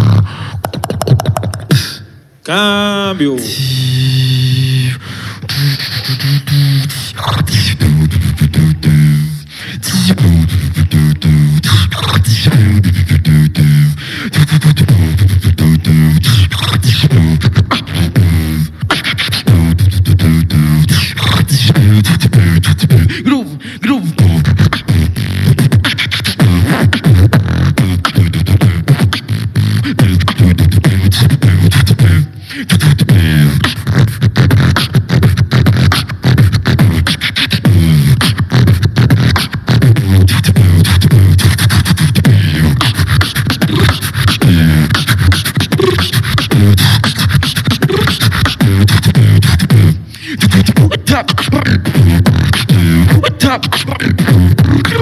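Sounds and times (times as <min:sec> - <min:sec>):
beatboxing into microphone: 0:00.0 - 0:55.0.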